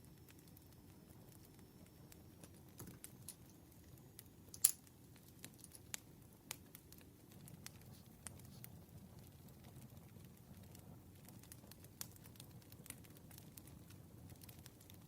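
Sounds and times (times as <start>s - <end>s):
campfire crackling: 0.0s - 15.0s
rustle of burning wood: 0.1s - 15.0s.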